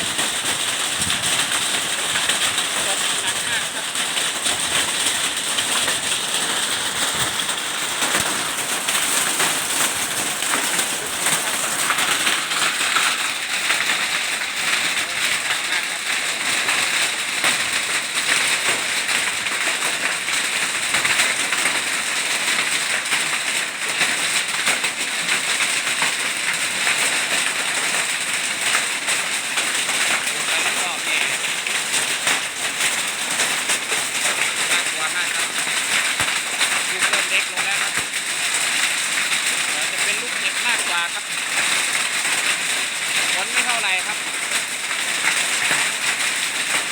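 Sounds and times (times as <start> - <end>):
hail and heavy rain pelting: 0.0 - 46.9.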